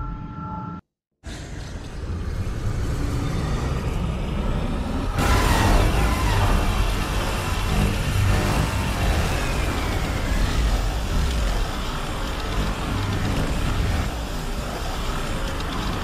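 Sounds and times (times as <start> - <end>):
engine-like mechanical rumble: 1.3 - 16.0.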